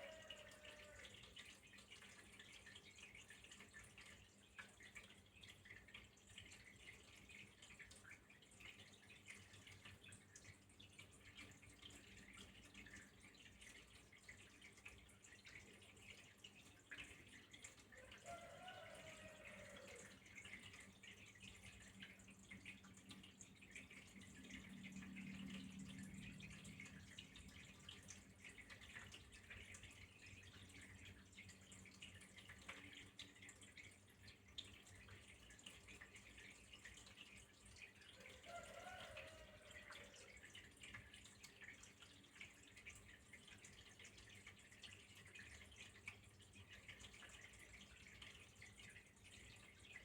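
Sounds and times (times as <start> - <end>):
water trickling and dripping: 0.0 - 50.0.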